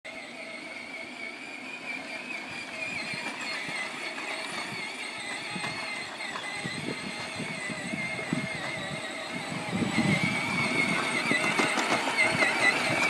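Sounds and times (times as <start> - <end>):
toy motor high whine: 0.1 - 13.0
wheels rumbling over ground: 0.1 - 13.0.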